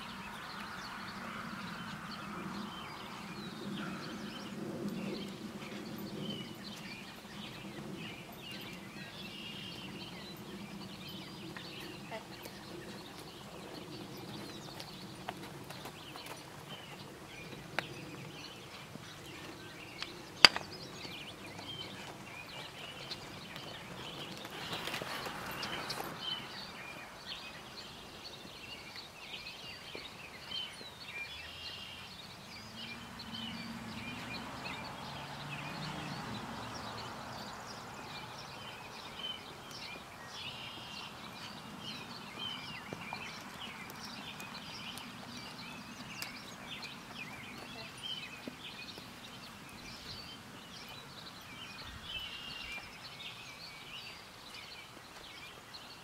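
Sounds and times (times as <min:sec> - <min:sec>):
birds chirping and singing: 0:00.0 - 0:56.0
outdoor background noise: 0:00.0 - 0:56.0.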